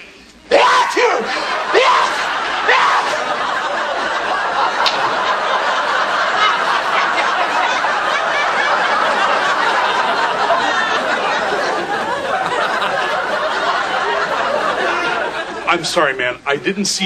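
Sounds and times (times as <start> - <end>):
studio audience laughing: 0.8 - 16.1.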